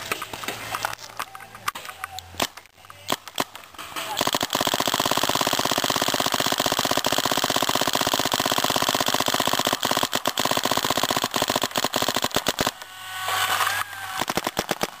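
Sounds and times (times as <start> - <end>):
paintball marker rapid firing: 2.4 - 15.0.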